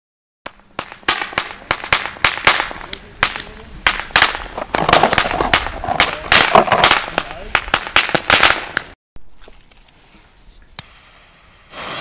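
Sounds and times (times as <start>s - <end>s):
firecrackers banging: 0.4s - 9.0s, 10.8s - 12.0s.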